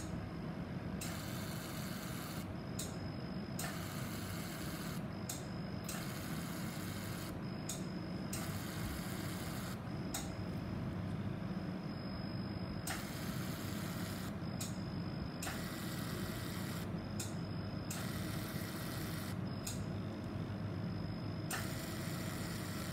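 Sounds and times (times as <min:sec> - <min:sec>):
low hum of laser unit: 0:00.0 - 0:22.9.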